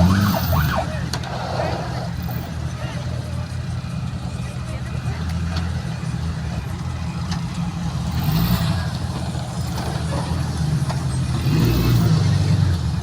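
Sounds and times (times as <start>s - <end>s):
car engine idling at low revs: 0.0s - 13.0s.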